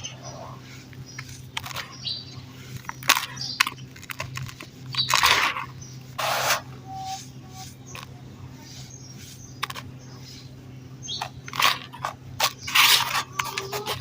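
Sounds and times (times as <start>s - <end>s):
dry dirt crunching: 0.0s - 14.0s.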